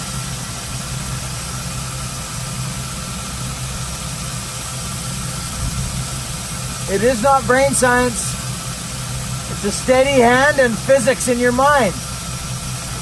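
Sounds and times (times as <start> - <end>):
motor humming with faint whine: 0.0 - 13.0.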